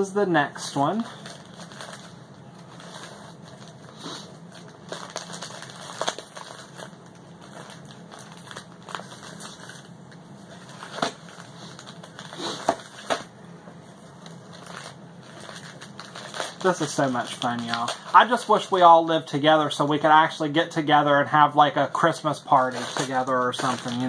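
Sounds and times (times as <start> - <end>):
wrapping paper rustling: 0.0 - 20.5, 21.9 - 24.0
wrapping paper ripping: 0.6 - 13.3, 14.2 - 19.8, 22.0 - 24.0.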